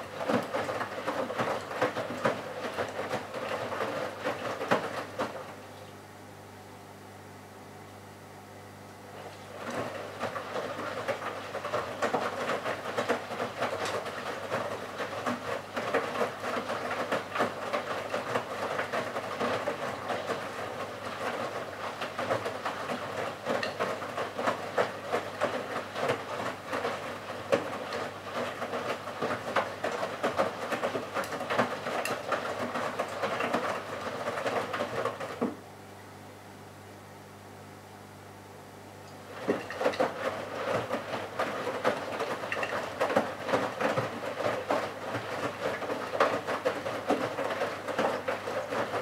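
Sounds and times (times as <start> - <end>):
laundry tumbling in washing machine: 0.0 - 5.8, 9.0 - 35.7, 39.2 - 49.0
washing machine motor hum: 0.0 - 49.0.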